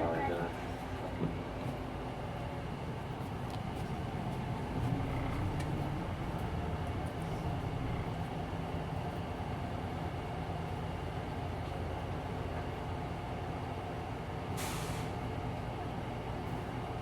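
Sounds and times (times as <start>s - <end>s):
bus diesel engine humming: 0.0s - 17.0s.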